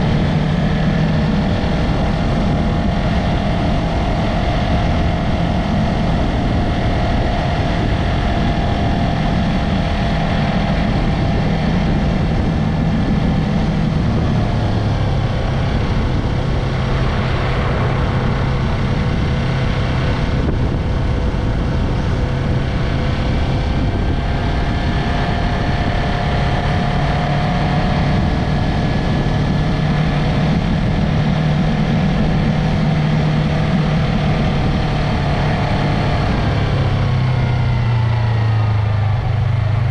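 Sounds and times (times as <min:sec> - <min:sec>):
constant rushing noise: 0:00.0 - 0:39.9
motorcycle engine and exhaust: 0:00.0 - 0:39.9.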